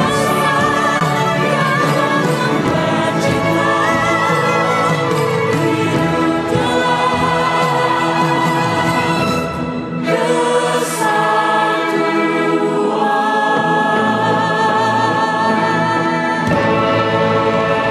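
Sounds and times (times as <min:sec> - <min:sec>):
choir singing long notes: 0:00.0 - 0:17.9.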